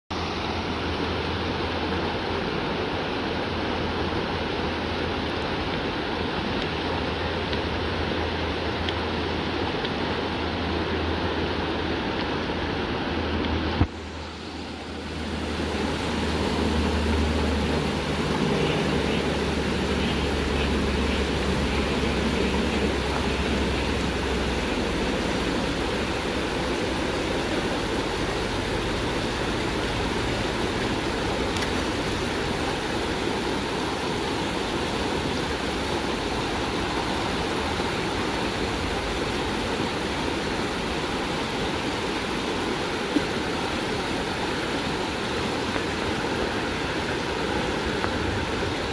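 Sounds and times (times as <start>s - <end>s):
river rushing over rapids: 0.1s - 48.9s.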